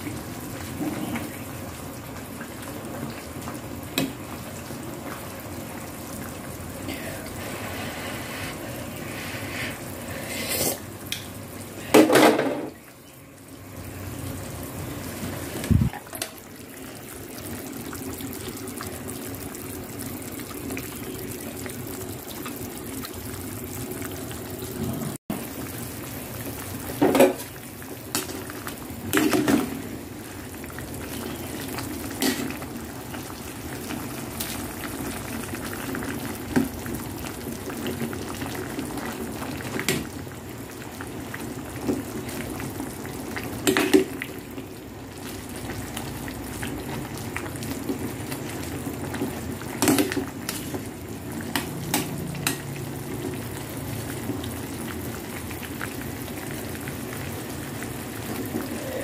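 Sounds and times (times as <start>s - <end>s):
soup bubbling in a pot: 0.0s - 59.0s.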